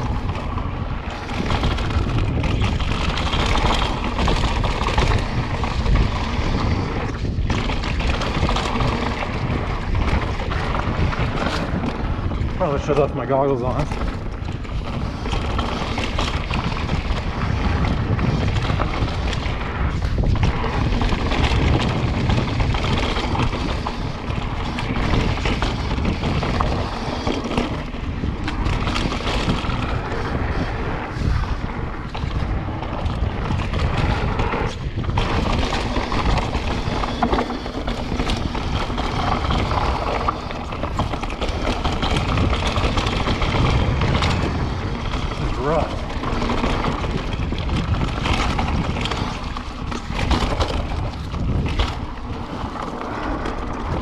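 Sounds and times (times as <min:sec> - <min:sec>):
bike rattling over bumps: 0:00.0 - 0:54.0
wind buffeting microphone: 0:00.0 - 0:54.0.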